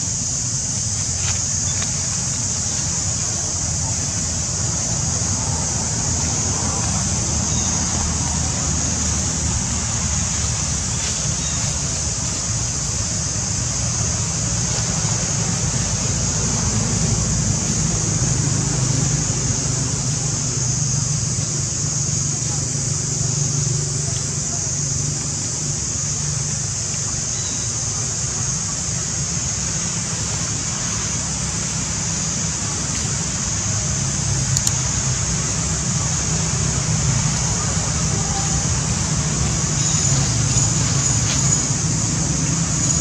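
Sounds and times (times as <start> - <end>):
high-pitched hiss: 0.0 - 43.0.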